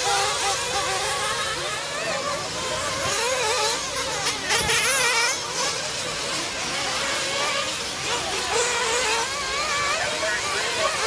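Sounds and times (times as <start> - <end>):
rc buggy engines buzzing: 0.0 - 11.0.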